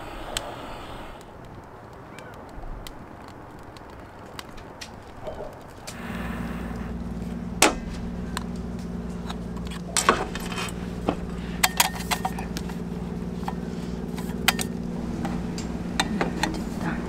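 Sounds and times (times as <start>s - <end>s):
steady low hum: 0.0s - 17.0s
metal lanterns clicking and clinking: 1.2s - 17.0s.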